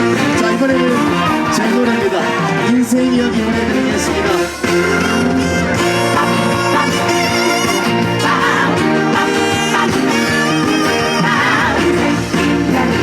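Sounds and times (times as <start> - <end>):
instrumental backing track over loudspeaker: 0.0 - 13.0.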